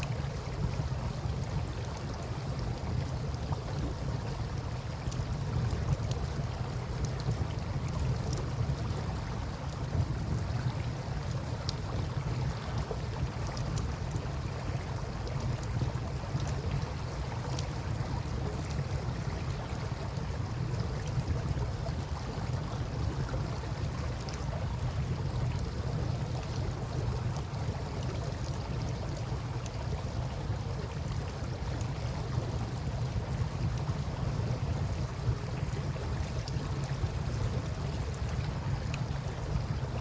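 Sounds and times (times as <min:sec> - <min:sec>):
campfire crackling: 0:00.0 - 0:40.0
river water flowing: 0:00.0 - 0:40.0.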